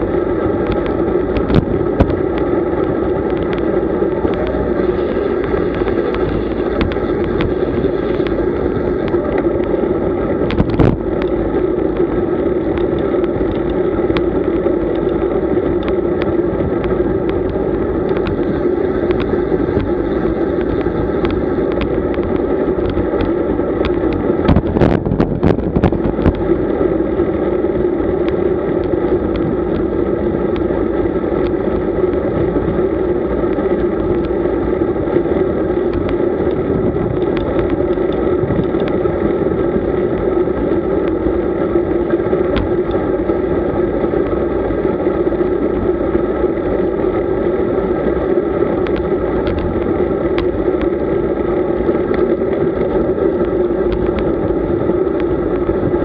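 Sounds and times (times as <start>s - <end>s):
constant hum: 0.0s - 56.0s
road vibration: 0.0s - 56.0s
wind on microphone: 0.0s - 56.0s.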